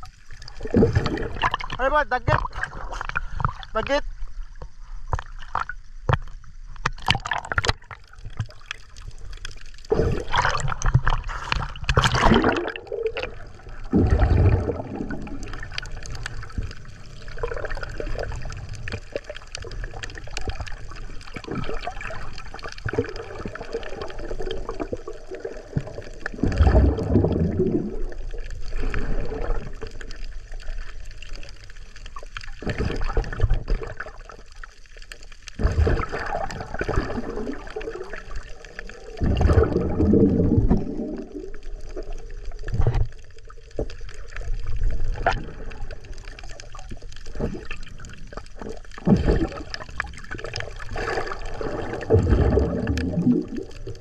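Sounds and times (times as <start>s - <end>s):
sea water sloshing and splashing: 0.0s - 54.0s.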